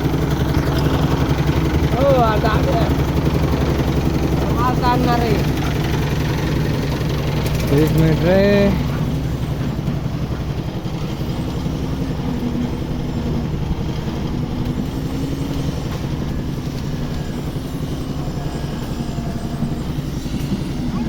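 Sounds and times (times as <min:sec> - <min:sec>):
concrete mixer engine running: 0:00.0 - 0:21.0.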